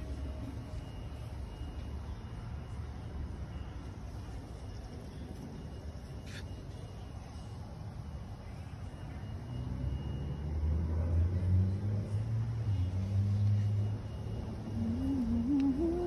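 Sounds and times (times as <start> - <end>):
passing vehicle engine rumble: 0.0 - 16.0.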